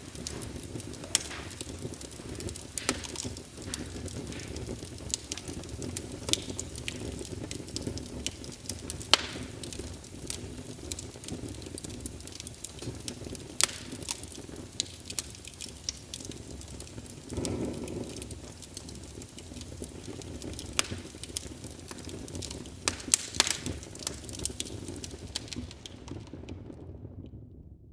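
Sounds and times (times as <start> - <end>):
fire crackling and popping: 0.0 - 27.4
low fire rumble: 0.0 - 27.9.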